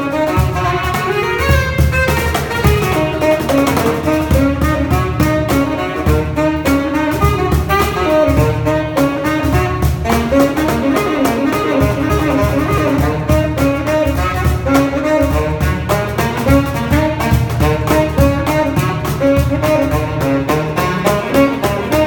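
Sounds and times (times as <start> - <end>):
saxophone jazzy melody: 0.0 - 22.0.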